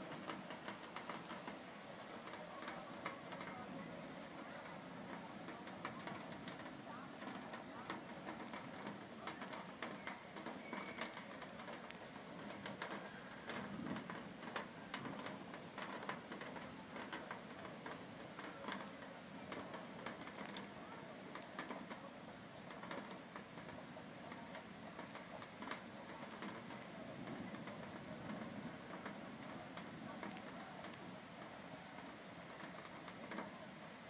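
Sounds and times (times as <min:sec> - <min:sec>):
hail and rain hissing: 0:00.0 - 0:34.0
hailstones ticking on leaves: 0:00.0 - 0:34.0.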